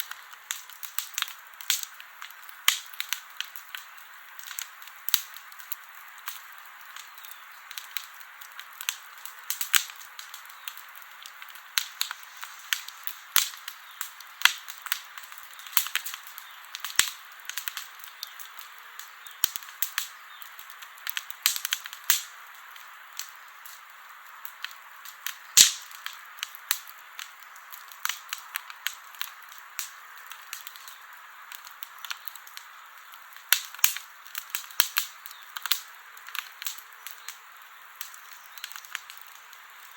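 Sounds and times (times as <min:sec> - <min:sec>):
pops and snaps of burning wood: 0:00.0 - 0:39.9
soft steady hiss: 0:00.0 - 0:39.9
wood campfire crackling: 0:00.0 - 0:39.9.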